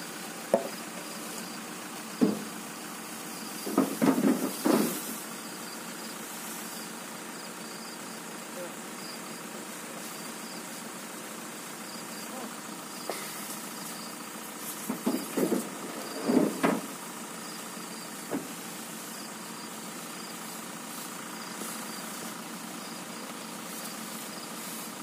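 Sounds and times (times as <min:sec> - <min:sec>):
vehicle engine idling: 0:00.0 - 0:25.0
crickets chirping: 0:00.2 - 0:25.0.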